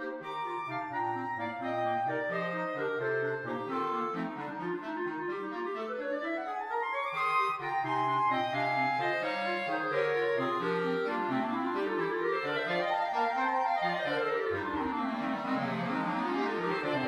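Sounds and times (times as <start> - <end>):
clarinet quartet playing: 0.0 - 17.0.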